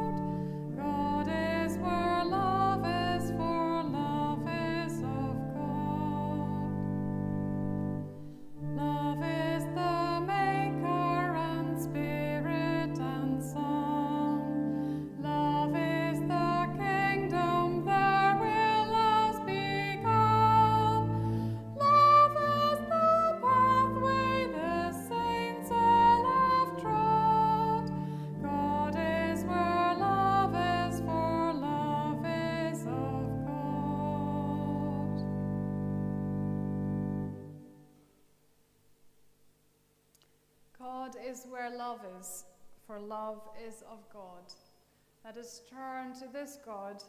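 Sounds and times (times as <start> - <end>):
person singing a hymn: 0.0 - 37.8
sustained low instrumental notes: 0.0 - 37.8.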